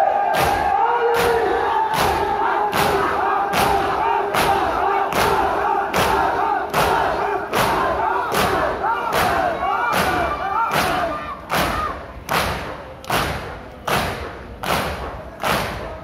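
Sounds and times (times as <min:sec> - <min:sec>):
crowd beating chests in unison: 0:00.0 - 0:16.0
crowd chanting: 0:00.0 - 0:16.0.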